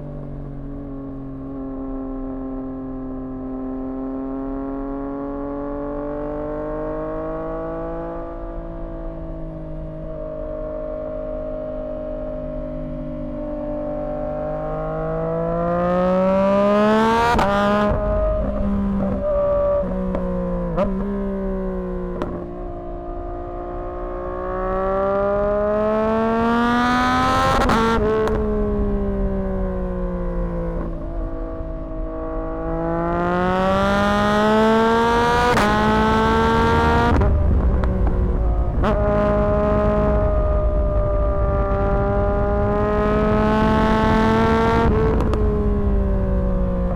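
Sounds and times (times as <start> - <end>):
motorcycle engine revving: 4.0 - 46.9.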